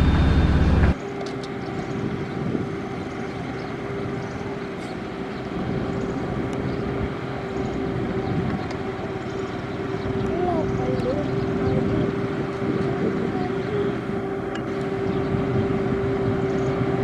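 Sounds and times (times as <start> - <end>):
heavy machinery engine drone: 0.0 - 17.0.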